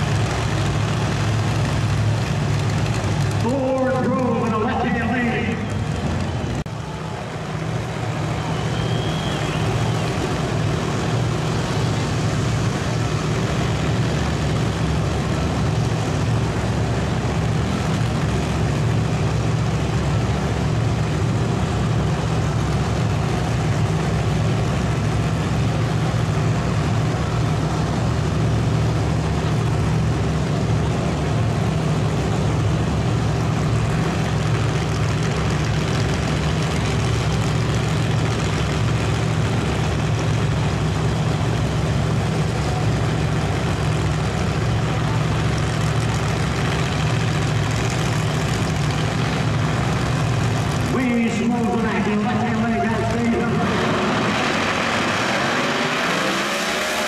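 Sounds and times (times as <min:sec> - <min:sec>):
race car engines idling: 0:00.0 - 0:57.0.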